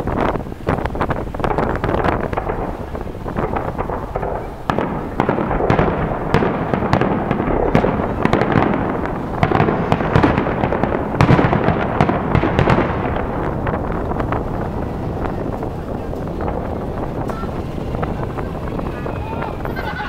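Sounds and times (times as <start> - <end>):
firework shells bursting: 0.0 - 19.8
continuous rumble: 0.0 - 20.0.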